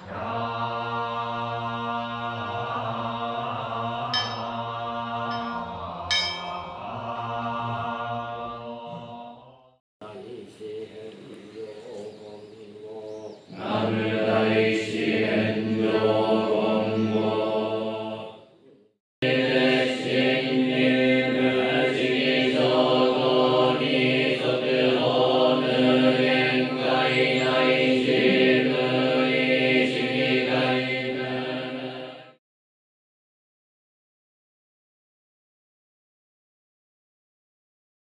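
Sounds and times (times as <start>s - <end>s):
monks chanting: 0.0s - 18.4s, 19.2s - 32.4s.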